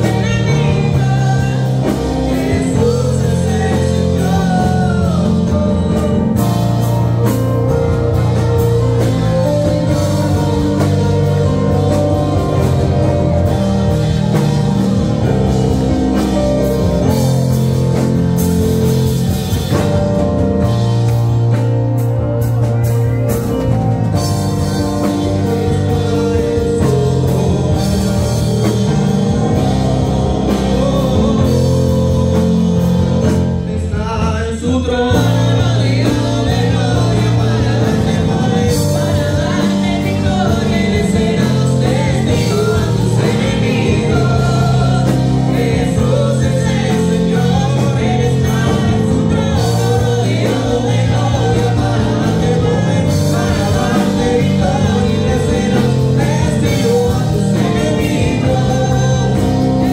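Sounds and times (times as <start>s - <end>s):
man and woman singing: 0.0s - 20.7s, 23.4s - 59.9s
electronic keyboard: 0.0s - 59.9s
sustained low bass notes: 0.0s - 59.9s.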